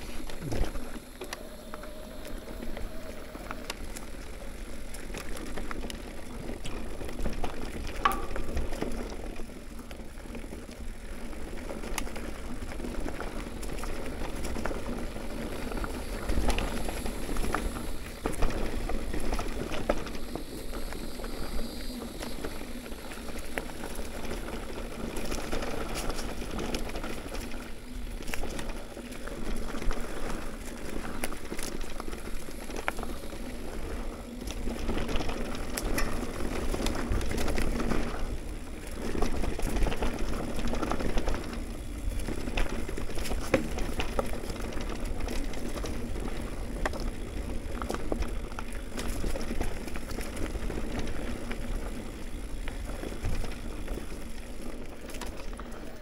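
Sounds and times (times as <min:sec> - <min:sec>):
bike rattling and clicking: 0:00.0 - 0:56.0
bike tyres rolling over gravel: 0:00.0 - 0:56.0.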